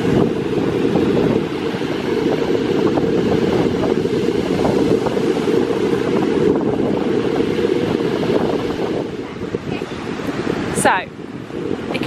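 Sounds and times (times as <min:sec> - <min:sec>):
sea waves on beach: 0:00.0 - 0:12.0
wind buffeting microphone: 0:00.0 - 0:12.0.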